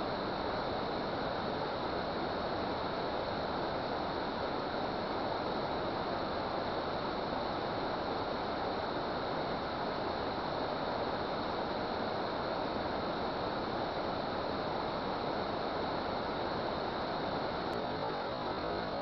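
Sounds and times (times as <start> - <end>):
water rushing at a dam: 0.1 - 19.0.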